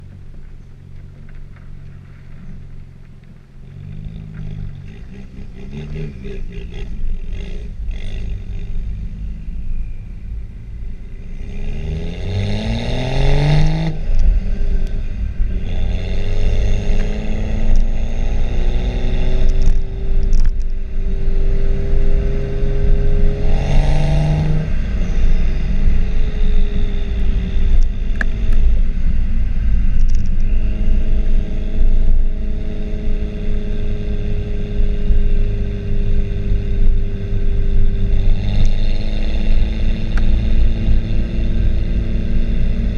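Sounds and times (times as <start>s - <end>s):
car exhaust revving: 0.0s - 42.9s
wind and road noise: 0.0s - 42.9s.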